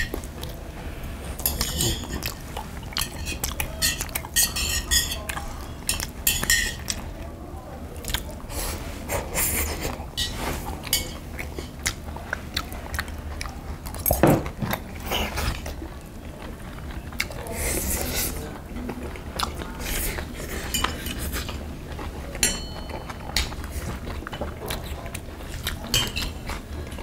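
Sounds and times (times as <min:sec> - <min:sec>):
people chewing and crunching: 0:00.0 - 0:27.0.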